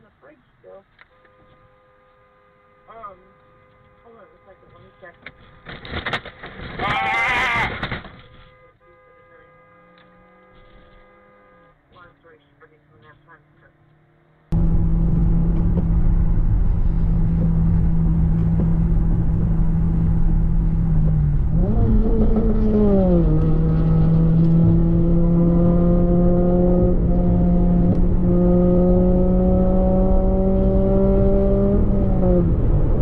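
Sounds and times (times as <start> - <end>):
road rumble: 0.0 - 33.0
car engine revving: 5.8 - 33.0.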